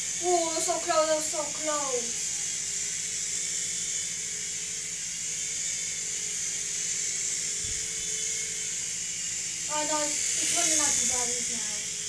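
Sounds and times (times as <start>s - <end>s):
rc helicopter rotors whirring: 0.0s - 12.0s.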